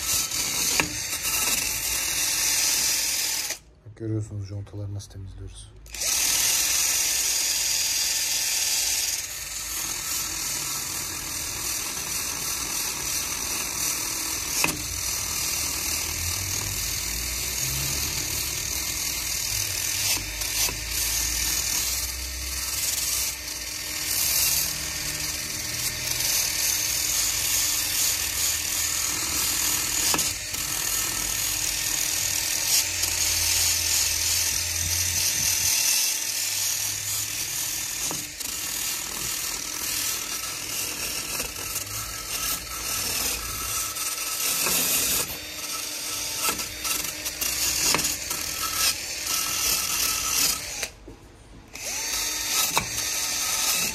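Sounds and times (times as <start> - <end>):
drill spinning wire brush: 0.0 - 3.7, 5.9 - 53.9.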